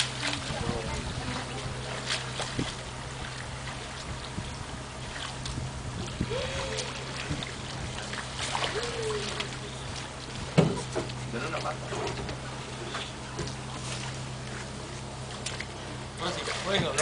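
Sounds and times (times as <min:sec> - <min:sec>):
boat motor idling: 0:00.0 - 0:17.0
water lapping: 0:00.0 - 0:17.0
water splashing: 0:00.0 - 0:17.0.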